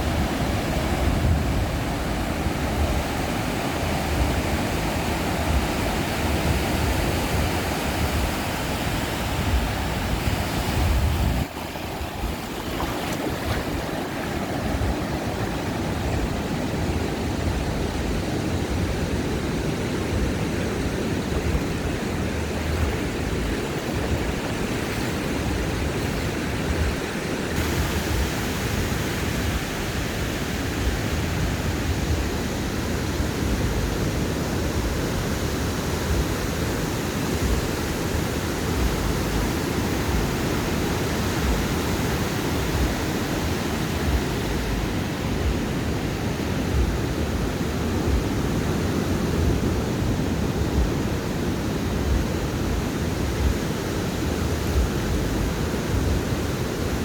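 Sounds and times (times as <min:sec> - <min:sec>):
waves breaking on beach: 0:00.0 - 0:57.0
wind rumble on microphone: 0:00.0 - 0:57.0.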